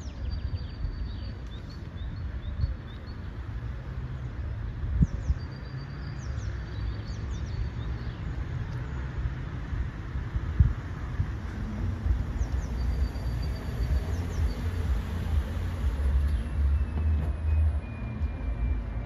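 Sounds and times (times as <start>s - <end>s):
songbirds chirping and whistling: 0.0s - 9.5s, 10.2s - 19.0s
distant traffic: 0.0s - 19.0s
wind rumble: 0.0s - 19.0s.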